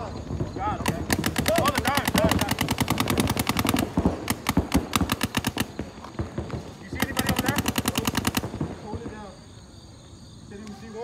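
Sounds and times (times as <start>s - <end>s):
paintball markers firing: 0.0s - 9.2s.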